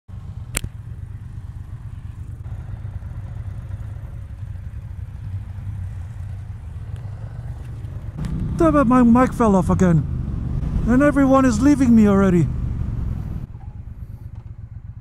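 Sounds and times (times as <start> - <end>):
motorcycle engine idling: 0.1 - 15.0.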